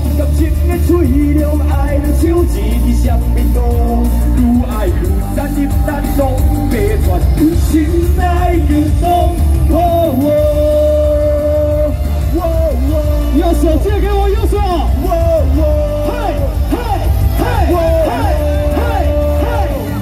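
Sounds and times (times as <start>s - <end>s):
hip-hop backing track with heavy bass: 0.0s - 20.0s
man singing: 0.0s - 20.0s.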